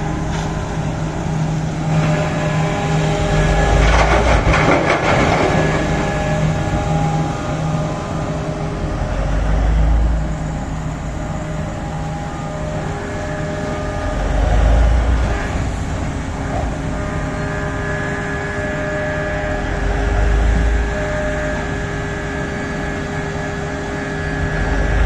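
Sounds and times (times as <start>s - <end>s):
excavator diesel engine under load: 0.0s - 25.0s.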